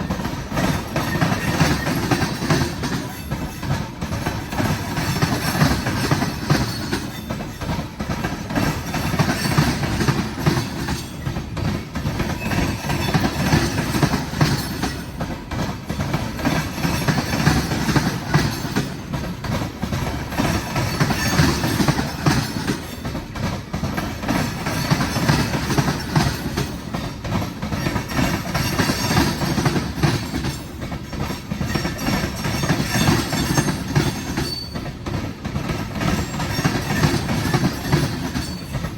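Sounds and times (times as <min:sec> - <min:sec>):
freight train rumbling: 0:00.0 - 0:38.9
wheels clattering over rails: 0:00.0 - 0:38.9.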